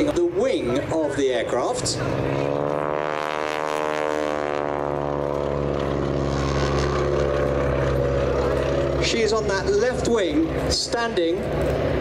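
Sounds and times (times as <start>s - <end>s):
biplane engine droning: 0.0s - 12.0s.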